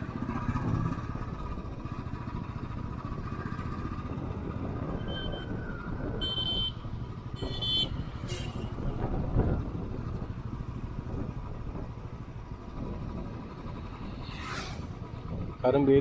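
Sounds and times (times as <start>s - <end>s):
motorcycle engine running: 0.0s - 5.0s, 5.8s - 16.0s
heavy wind noise: 0.0s - 16.0s.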